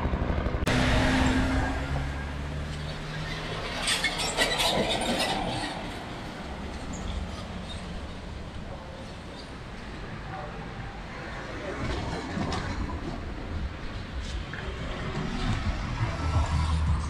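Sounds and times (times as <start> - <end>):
vehicle engine humming: 0.0 - 11.1, 13.2 - 17.0
traffic noise: 0.0 - 17.0.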